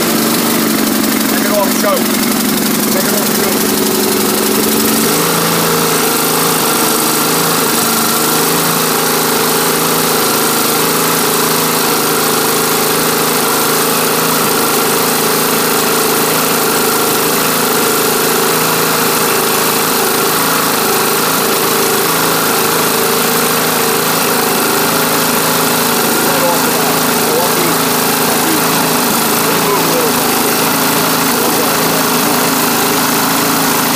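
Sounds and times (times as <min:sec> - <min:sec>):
lawn tractor engine running: 0:00.0 - 0:33.9.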